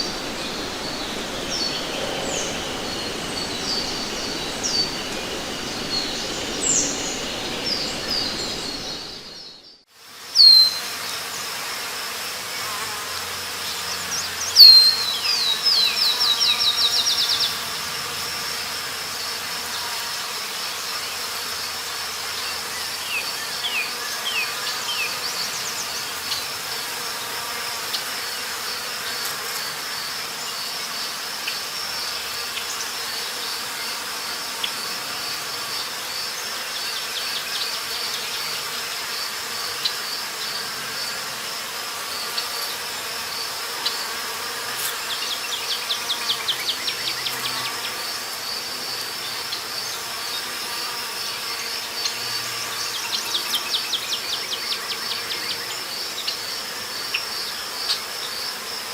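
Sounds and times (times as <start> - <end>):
pulsing insect chorus: 0.0 - 58.9.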